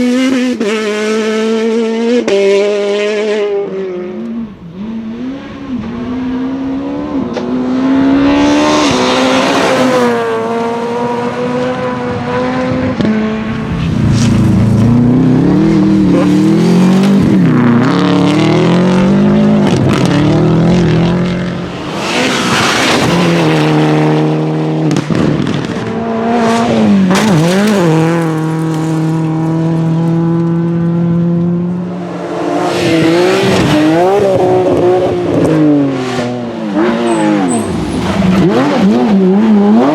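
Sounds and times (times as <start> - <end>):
rally car engines revving: 0.0 - 39.9
tyre and road noise: 4.7 - 39.9.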